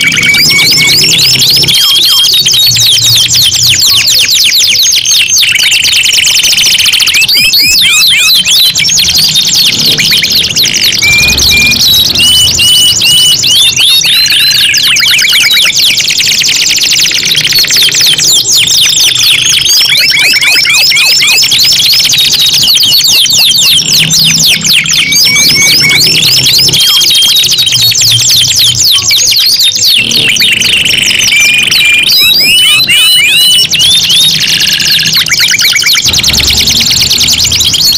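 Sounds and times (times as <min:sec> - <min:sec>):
canaries singing: 0:00.0 - 0:37.9.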